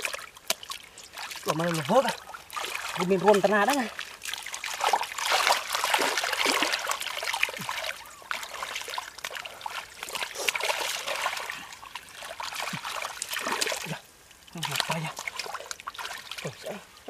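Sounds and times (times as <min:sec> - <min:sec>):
hands splashing in muddy water: 0:00.0 - 0:14.0
water trickling: 0:00.0 - 0:17.0.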